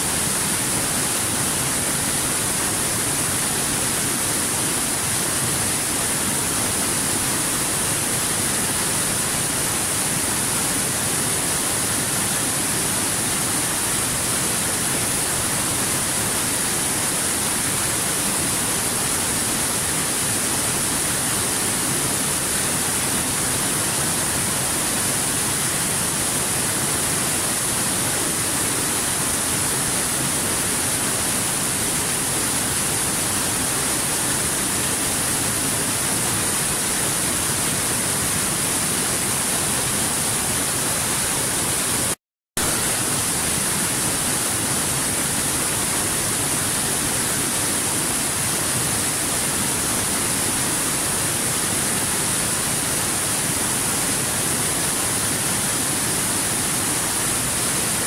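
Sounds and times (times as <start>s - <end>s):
waterfall splashing into pool: 0.1s - 58.0s.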